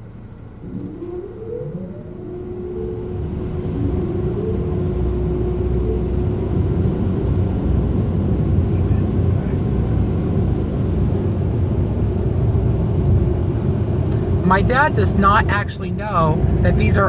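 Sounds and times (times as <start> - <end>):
blower dryers rushing air: 0.0 - 17.0.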